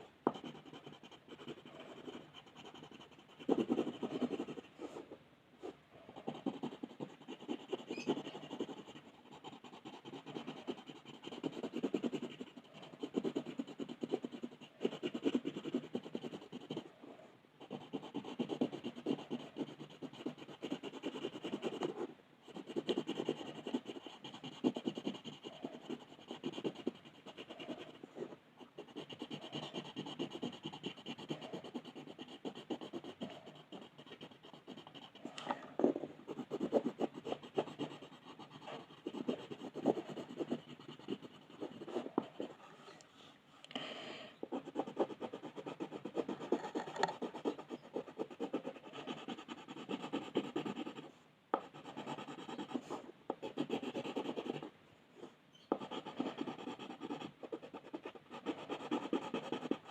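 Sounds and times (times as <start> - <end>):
colouring strokes scratching on paper: 0.0 - 16.9, 17.6 - 35.3, 35.9 - 42.8, 44.5 - 59.9.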